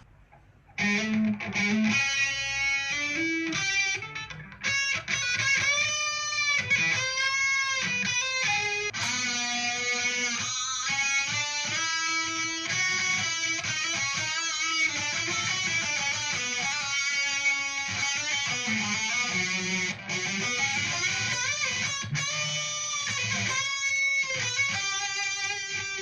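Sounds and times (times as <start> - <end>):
electric guitar solo: 0.8 - 26.0.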